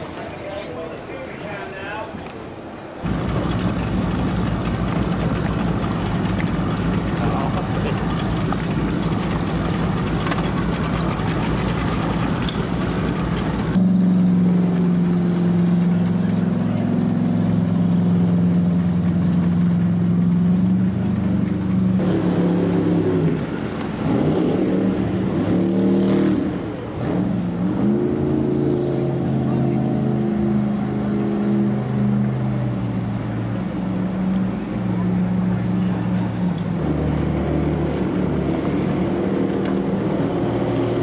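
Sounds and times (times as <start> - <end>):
boat engine revving: 3.0 - 41.0.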